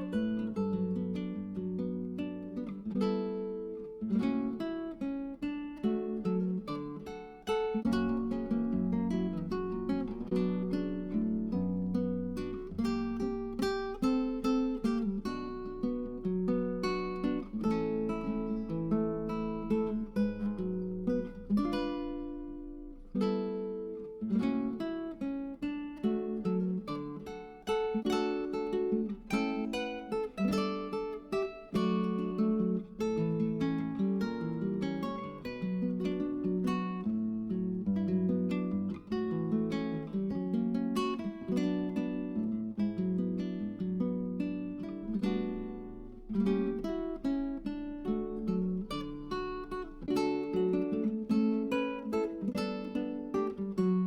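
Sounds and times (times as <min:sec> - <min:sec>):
plucked acoustic guitar: 0:00.0 - 0:54.0.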